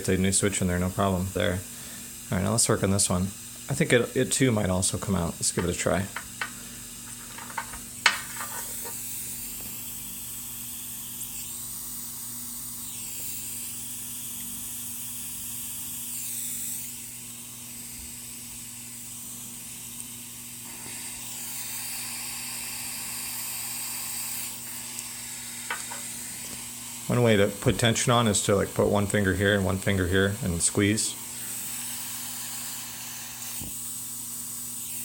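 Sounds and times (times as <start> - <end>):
soldering iron sizzling hiss: 0.0 - 35.0.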